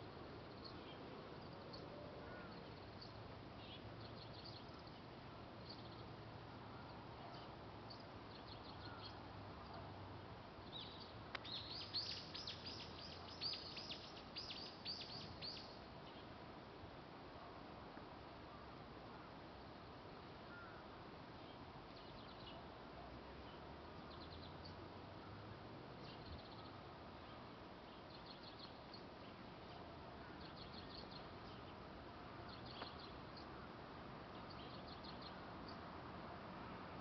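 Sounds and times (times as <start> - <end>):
steady background hiss: 0.0 - 37.0.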